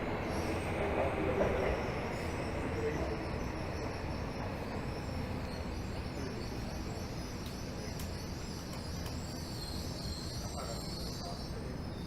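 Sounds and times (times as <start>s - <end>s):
train equipment hum and hiss: 0.0s - 12.0s.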